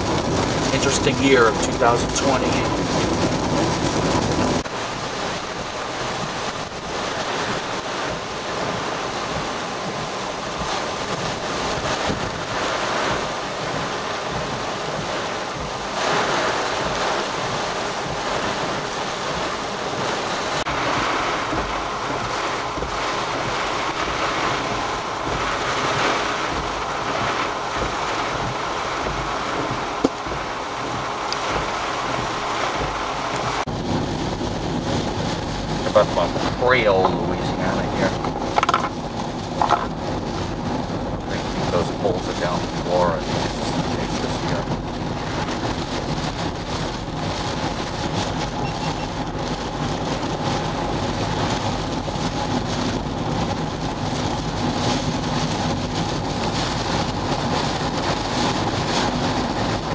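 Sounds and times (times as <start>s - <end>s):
wind and rain: 0.0s - 59.9s
wind buffeting microphone: 0.0s - 59.9s.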